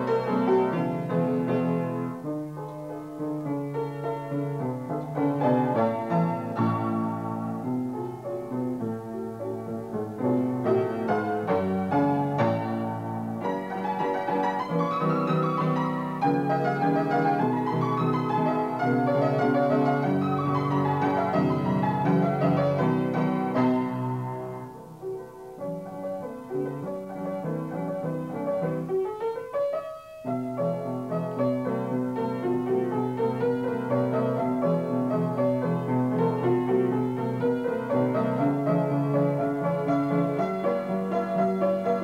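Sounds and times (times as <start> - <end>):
solo piano: 0.0 - 42.0.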